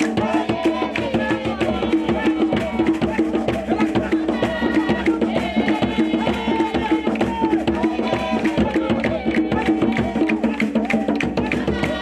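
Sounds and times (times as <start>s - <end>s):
rhythmic drum and percussion music: 0.0s - 12.0s.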